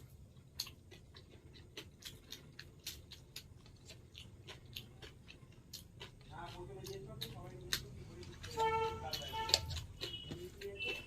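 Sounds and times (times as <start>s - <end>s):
chewing and lip smacking: 0.0s - 11.0s.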